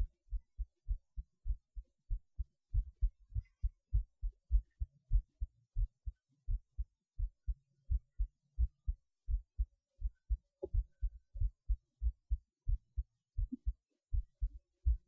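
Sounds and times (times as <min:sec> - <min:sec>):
heartbeat through stethoscope: 0:00.0 - 0:15.0.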